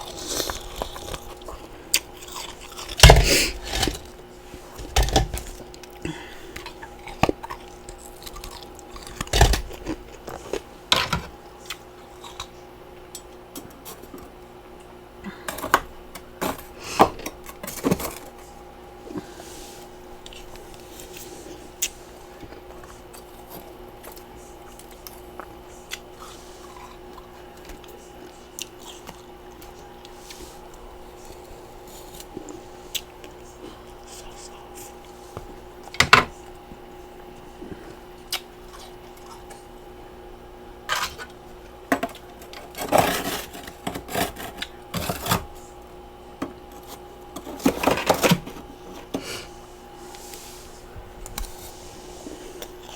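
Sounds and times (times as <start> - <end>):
ice being chewed: 0.0 - 18.5, 20.1 - 40.0, 40.8 - 50.3, 52.3 - 52.9
faint hum: 0.0 - 52.9.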